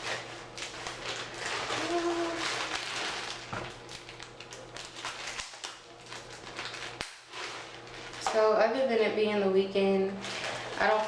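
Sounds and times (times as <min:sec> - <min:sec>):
packaging crinkling: 0:00.0 - 0:08.5, 0:10.1 - 0:11.0.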